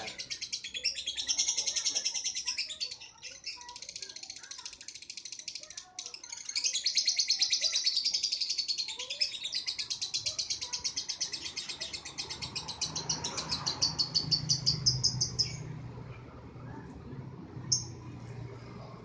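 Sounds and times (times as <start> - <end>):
bird chirp: 0.0 - 15.8, 17.6 - 18.2
lovebird high-pitched chatter: 0.0 - 15.8, 17.6 - 18.1.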